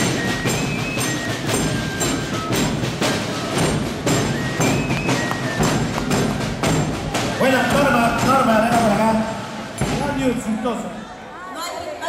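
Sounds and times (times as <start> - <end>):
festive band music over loudspeakers: 0.0 - 11.2.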